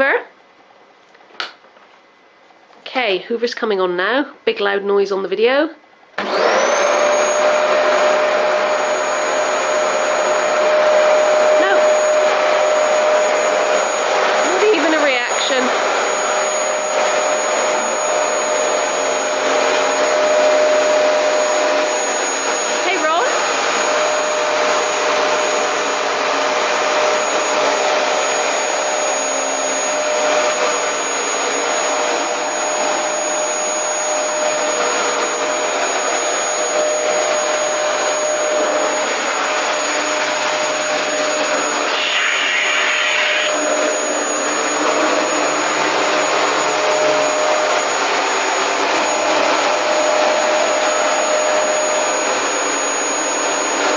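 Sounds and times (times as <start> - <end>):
vacuum cleaner running: 2.9 - 53.9.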